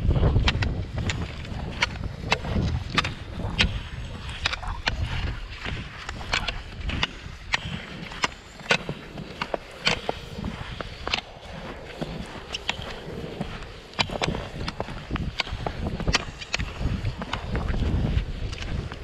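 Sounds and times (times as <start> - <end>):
ski poles clicking on pavement: 0.0 - 19.0
skis scraping on snow: 0.0 - 19.0
wind rumble on microphone: 0.0 - 19.0.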